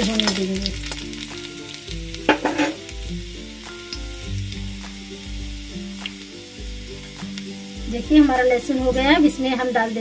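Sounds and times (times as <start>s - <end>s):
garlic sizzling in hot oil: 0.0s - 10.0s.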